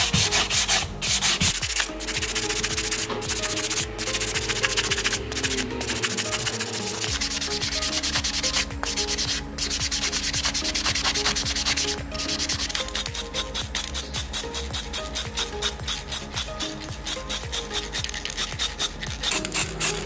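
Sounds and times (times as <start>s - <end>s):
sandpaper scratching metal: 0.0s - 20.0s.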